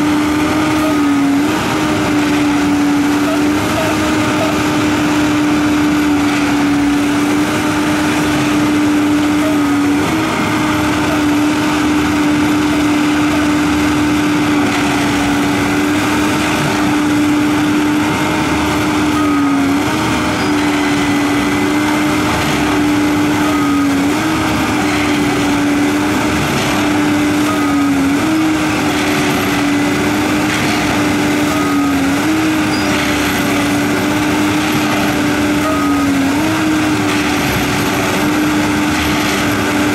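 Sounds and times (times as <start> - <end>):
rail machine engine hum: 0.0 - 39.9.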